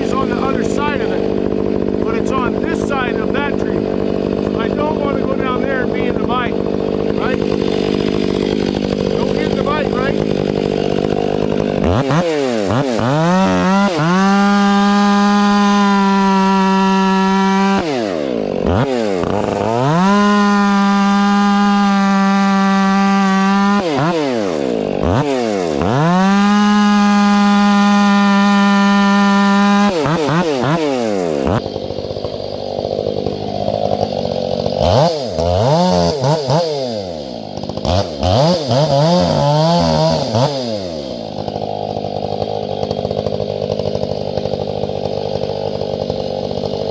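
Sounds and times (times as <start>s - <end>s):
chainsaw cutting firewood: 0.0s - 46.9s.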